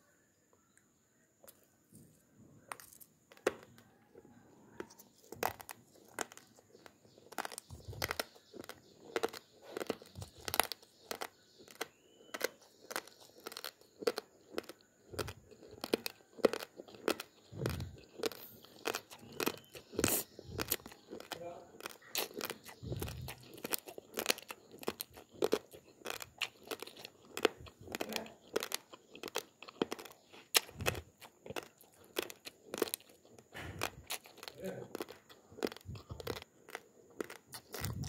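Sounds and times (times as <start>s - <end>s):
rice grains crunching: 2.6s - 38.0s.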